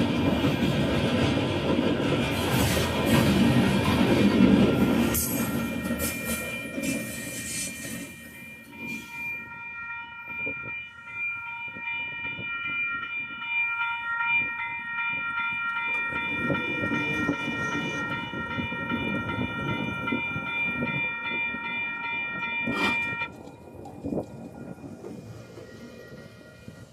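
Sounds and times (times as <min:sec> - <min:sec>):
train rumbling and clattering: 0:00.0 - 0:09.5, 0:11.6 - 0:26.9.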